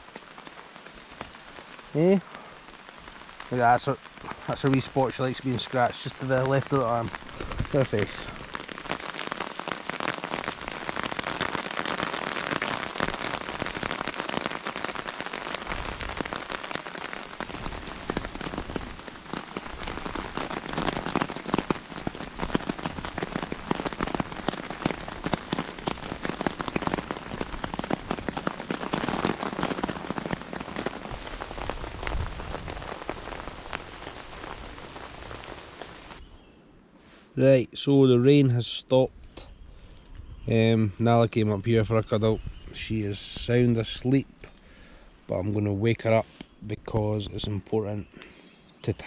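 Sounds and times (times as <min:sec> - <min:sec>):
rain on a tarpaulin: 0:00.0 - 0:36.3, 0:40.9 - 0:49.0.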